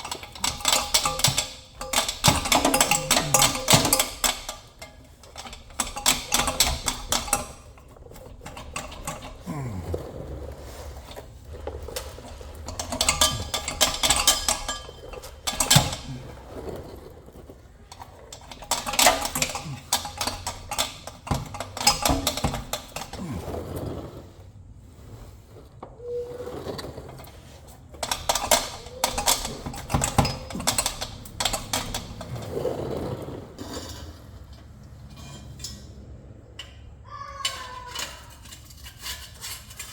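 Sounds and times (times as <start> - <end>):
hand tools clicking and clanking: 0.0 - 24.2, 25.6 - 39.9.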